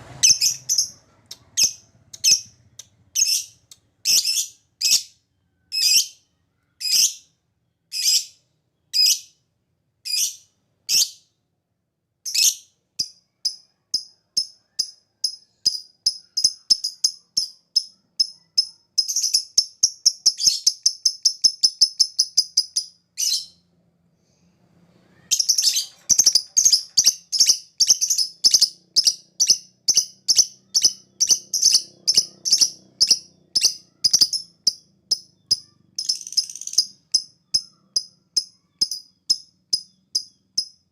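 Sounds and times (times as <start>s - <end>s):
lovebird chirping and chattering: 0.1s - 9.4s, 10.0s - 11.3s, 12.2s - 23.6s, 25.2s - 40.9s.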